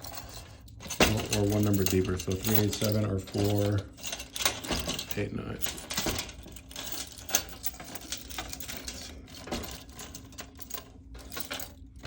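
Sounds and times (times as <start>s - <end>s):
metal keys clicking and jangling: 0.0s - 12.0s.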